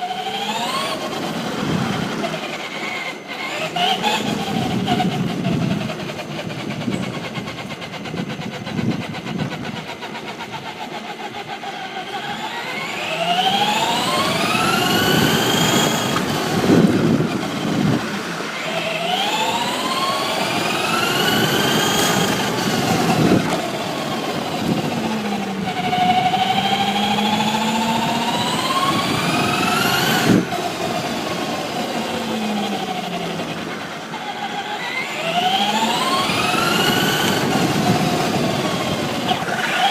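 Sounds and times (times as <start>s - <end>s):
rc truck motor whine: 0.0s - 39.9s.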